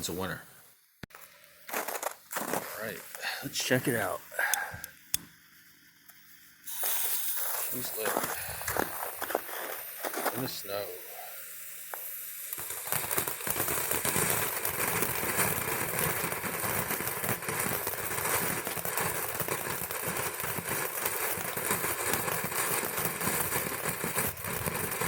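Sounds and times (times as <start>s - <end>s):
firework fountain crackling and hissing: 0.0s - 25.0s.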